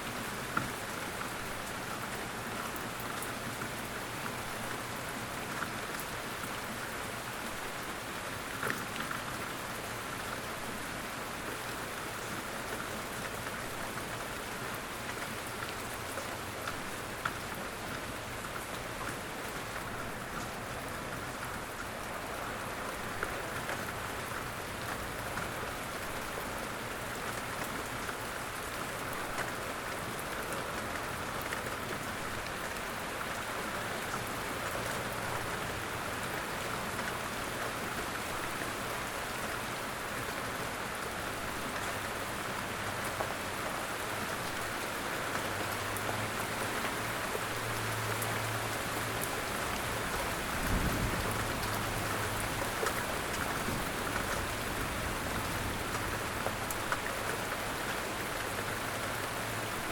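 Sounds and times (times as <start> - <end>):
light rain hiss: 0.0 - 59.9.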